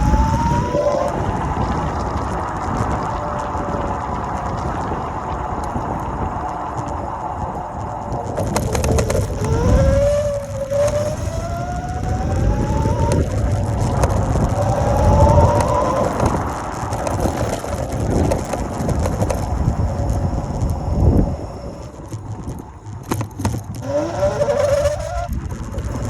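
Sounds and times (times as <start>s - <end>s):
electric scooter motor whining: 0.0s - 26.0s
low wind: 0.0s - 26.0s
road rumble: 0.0s - 26.0s.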